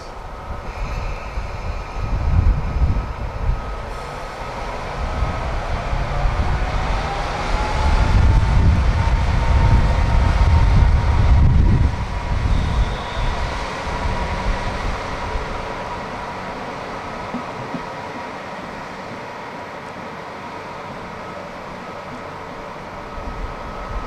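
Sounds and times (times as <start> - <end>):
diesel railcar rumbling: 0.0 - 24.0.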